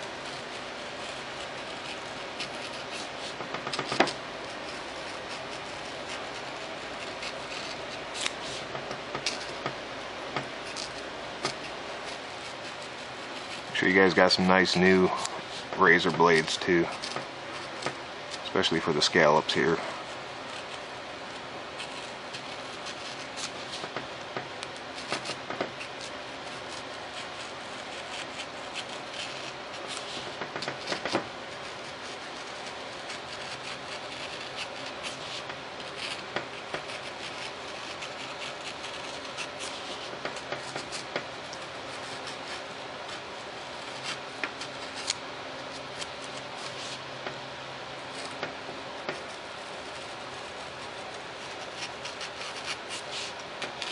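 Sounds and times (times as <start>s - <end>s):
knife scratching through paper: 0.0s - 9.8s, 10.4s - 47.1s, 48.0s - 53.9s
steady hiss: 0.0s - 53.9s.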